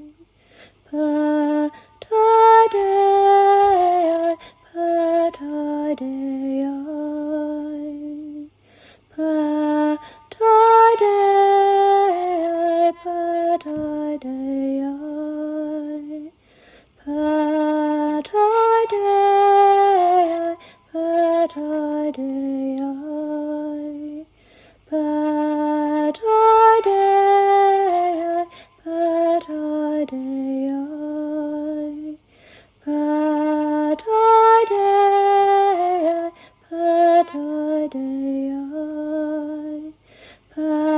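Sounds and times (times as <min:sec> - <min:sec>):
woman singing a chant: 0:00.0 - 0:16.4, 0:17.0 - 0:40.9.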